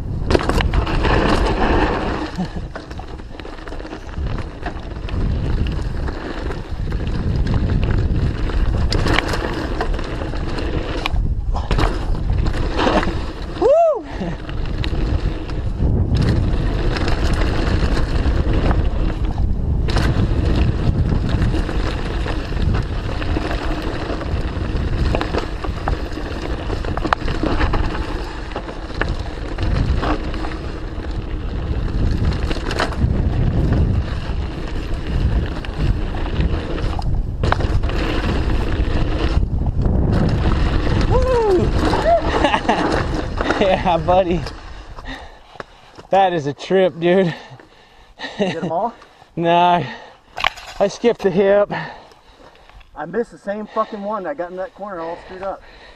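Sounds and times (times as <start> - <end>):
wind rushing on microphone: 0.0 - 45.4
bike knocks and rattles: 0.0 - 46.1
bike tyre noise: 0.0 - 55.9.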